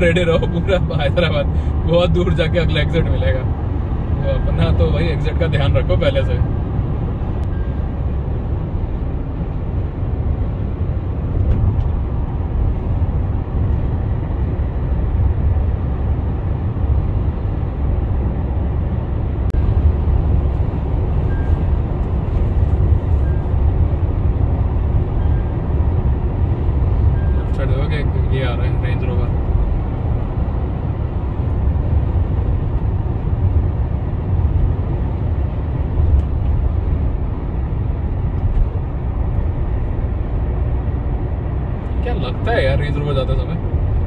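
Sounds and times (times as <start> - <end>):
diesel engine drone: 0.0 - 44.0
road and tyre rumble: 0.0 - 44.0.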